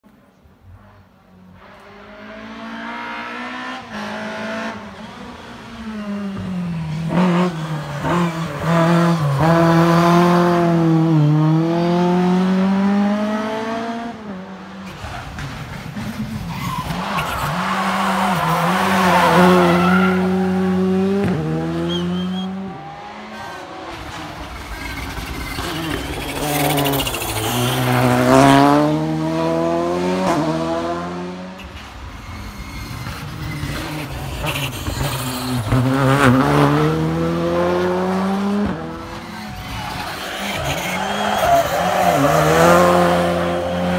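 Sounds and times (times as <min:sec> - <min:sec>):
rally car engines accelerating: 0:01.6 - 0:43.9.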